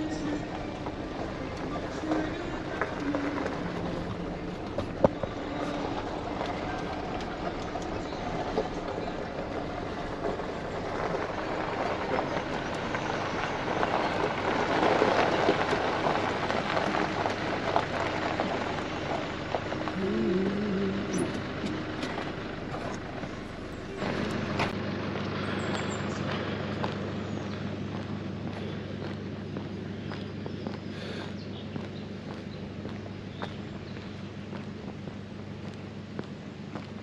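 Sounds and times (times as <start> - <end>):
low engine running: 0.0 - 37.0
tyres crunching on gravel: 0.0 - 37.0.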